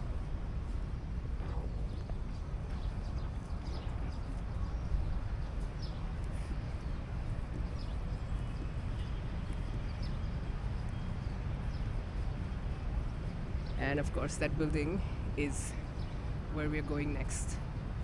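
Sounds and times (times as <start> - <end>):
steady low city rumble: 0.0 - 18.0.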